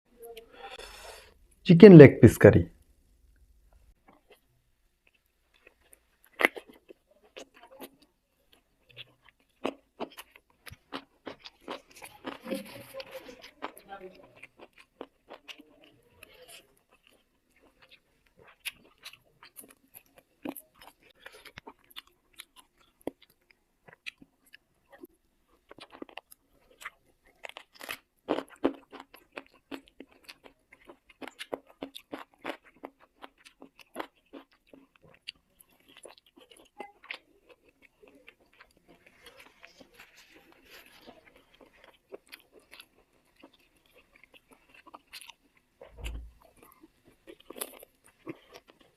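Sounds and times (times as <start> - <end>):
wet chewing and crunching: 3.9 - 48.9.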